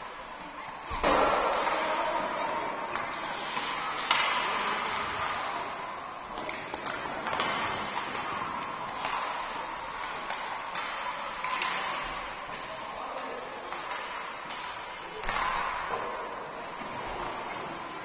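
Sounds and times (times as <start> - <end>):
hockey sticks and puck clacking: 0.0 - 18.0
skates scraping on ice: 0.0 - 18.0.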